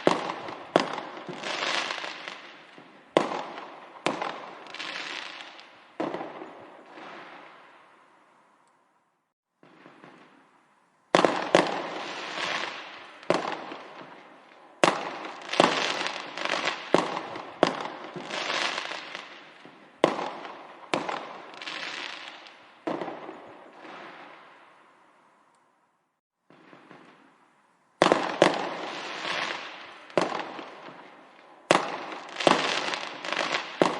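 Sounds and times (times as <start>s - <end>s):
fireworks bangs: 0.0s - 8.0s, 9.6s - 24.8s, 26.5s - 33.9s
fireworks crackling: 0.0s - 8.3s, 9.6s - 25.2s, 26.5s - 33.9s.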